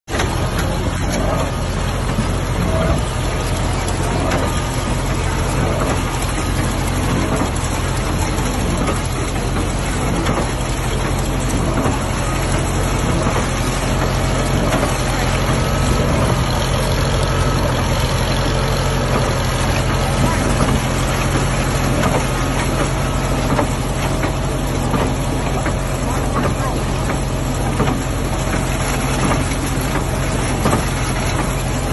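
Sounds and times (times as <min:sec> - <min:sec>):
tractor engine running: 0:00.0 - 0:31.9
baler working: 0:00.1 - 0:31.9.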